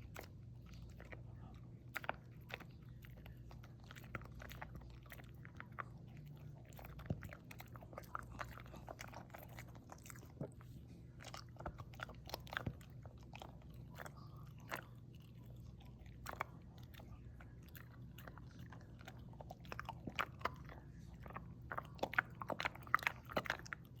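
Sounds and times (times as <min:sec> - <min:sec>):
dog chewing and crunching: 0:00.0 - 0:24.0.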